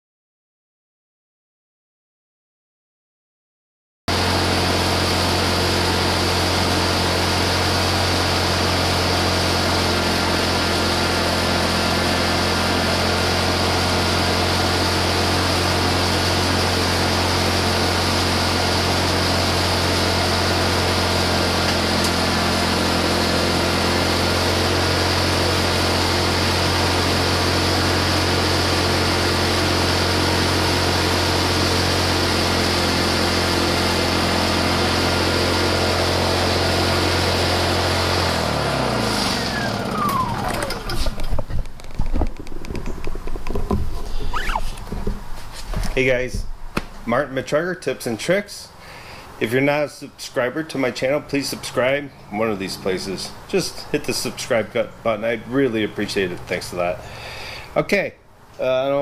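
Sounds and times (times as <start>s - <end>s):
generator engine running: 4.1s - 47.1s, 48.7s - 57.8s.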